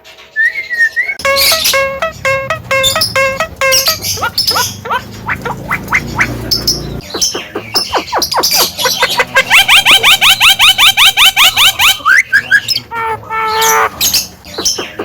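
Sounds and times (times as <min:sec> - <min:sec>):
myna whistled calls: 0:00.4 - 0:15.0.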